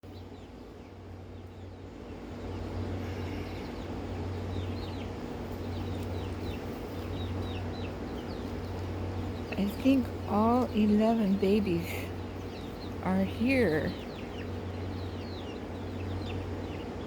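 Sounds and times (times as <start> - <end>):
steady low hum: 0.0 - 17.0
young birds peeping: 0.0 - 17.0.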